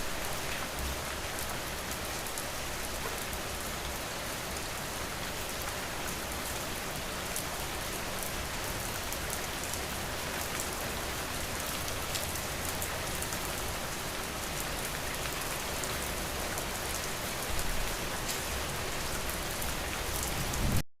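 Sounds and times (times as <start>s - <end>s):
steady rain falling: 0.0s - 20.8s.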